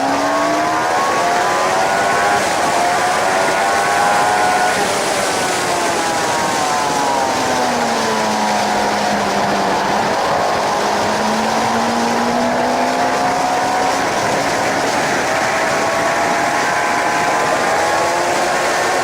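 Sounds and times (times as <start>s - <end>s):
motorcycle engine revving: 0.0s - 19.0s
wind noise: 0.0s - 19.0s.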